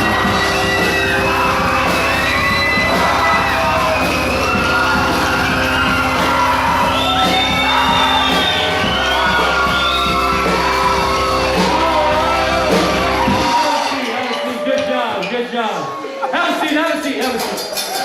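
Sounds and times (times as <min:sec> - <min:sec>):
young people shouting and singing: 0:00.0 - 0:18.0.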